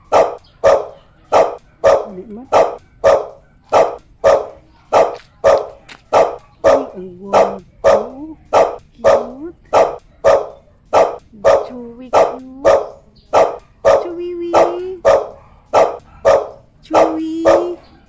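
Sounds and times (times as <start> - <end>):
dog barking: 0.0 - 18.0.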